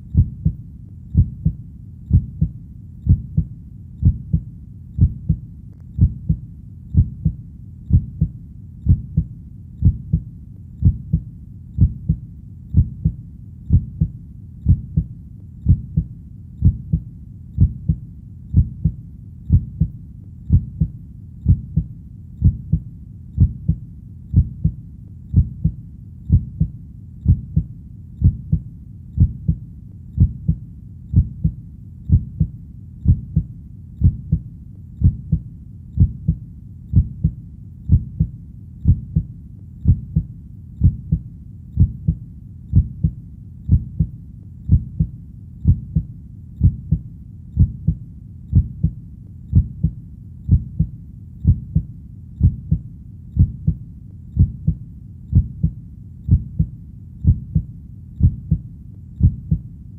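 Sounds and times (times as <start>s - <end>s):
heartbeat double thump: 0.1s - 4.4s, 5.0s - 5.4s, 6.0s - 6.4s, 7.0s - 8.3s, 8.9s - 11.2s, 11.8s - 12.2s, 12.8s - 17.0s, 17.6s - 22.8s, 23.4s - 28.6s, 29.2s - 29.6s, 30.2s - 34.4s, 35.0s - 35.4s, 36.0s - 41.2s, 41.8s - 47.0s, 47.6s - 52.8s, 53.4s - 53.8s, 54.4s - 58.6s, 59.2s - 59.6s.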